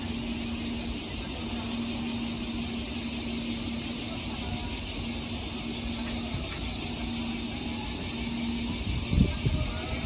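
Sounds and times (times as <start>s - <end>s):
continuous hiss: 0.0s - 10.0s
electric train humming: 0.0s - 10.0s.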